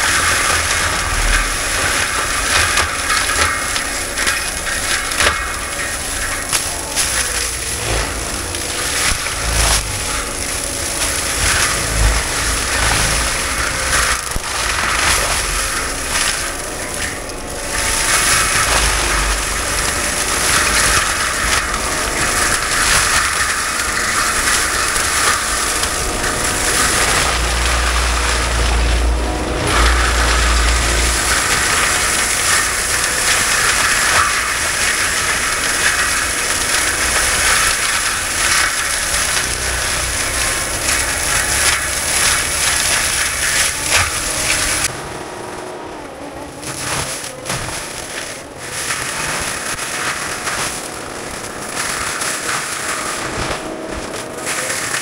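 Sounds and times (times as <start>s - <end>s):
heavy machinery running: 0.0s - 55.0s
low rumbles: 0.0s - 55.0s.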